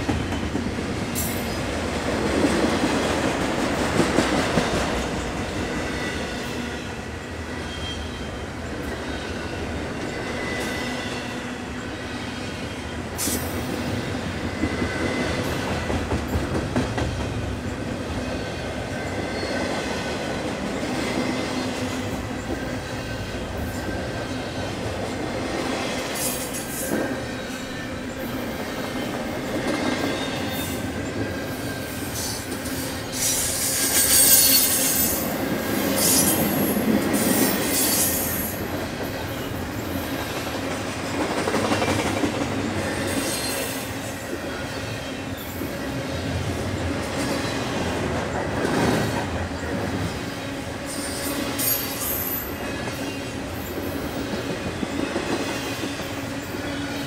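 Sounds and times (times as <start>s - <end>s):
rumble of steel wheels on rails: 0.0s - 57.0s.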